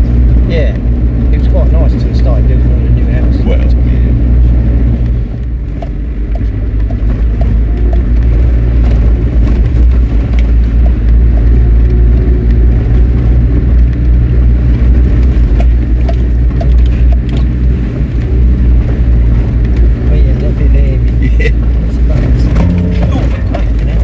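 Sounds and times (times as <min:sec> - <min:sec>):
engine rumble inside car cab: 0:00.0 - 0:24.0.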